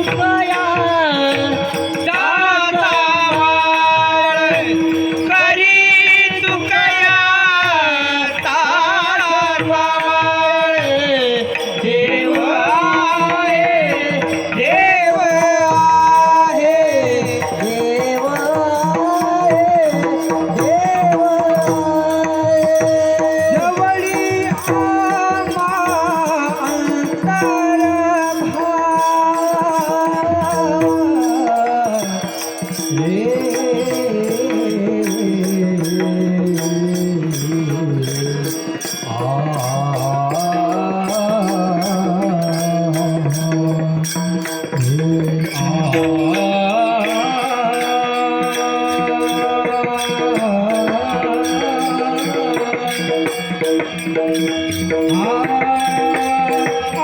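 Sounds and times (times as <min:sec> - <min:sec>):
light tabla: 0:00.0 - 0:57.0
man singing devotional song: 0:00.0 - 0:57.0.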